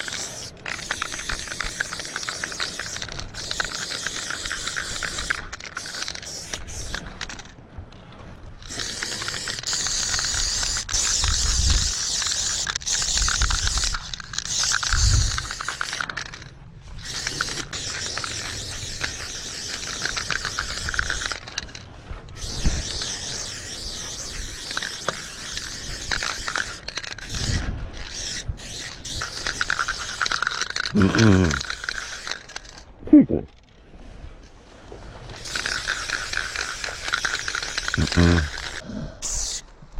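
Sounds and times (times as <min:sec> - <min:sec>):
spray paint can hissing: 0:00.0 - 0:07.5, 0:08.6 - 0:21.8, 0:22.4 - 0:32.8, 0:35.4 - 0:39.6.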